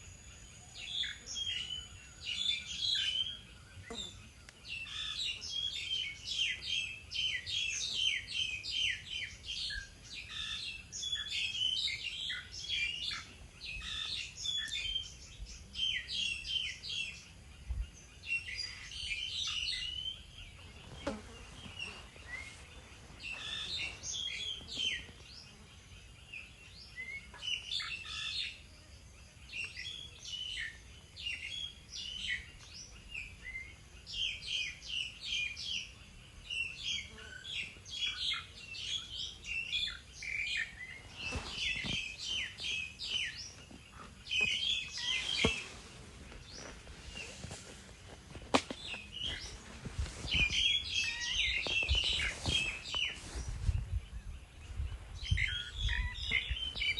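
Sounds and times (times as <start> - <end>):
small songbirds chirping: 0.0 - 56.9.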